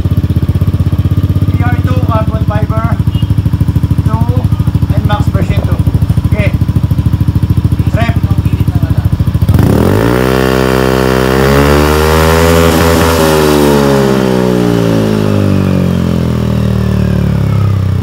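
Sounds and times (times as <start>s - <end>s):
scooter engine idling and revving: 0.0s - 18.0s.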